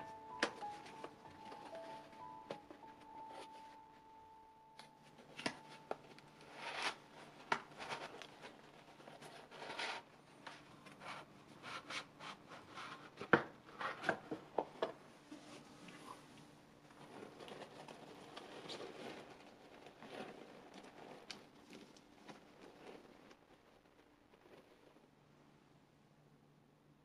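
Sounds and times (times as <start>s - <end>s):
cardboard and cloth rustling: 0.0s - 4.2s, 5.0s - 15.8s, 16.9s - 23.8s.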